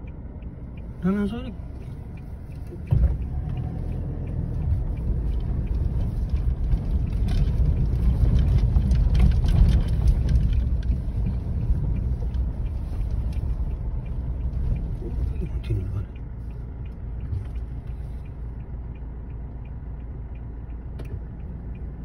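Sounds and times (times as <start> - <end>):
vehicle cabin rumble: 0.0 - 22.0.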